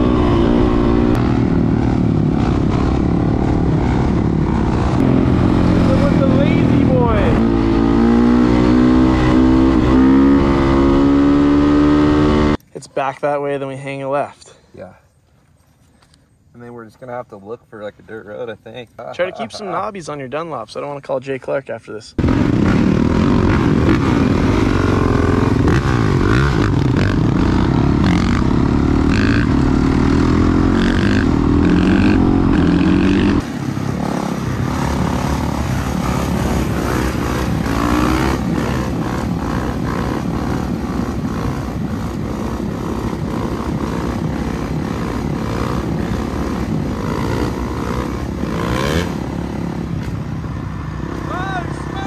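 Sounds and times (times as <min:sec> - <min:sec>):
dirt bike engine accelerating: 0:00.0 - 0:12.6, 0:22.2 - 0:52.0.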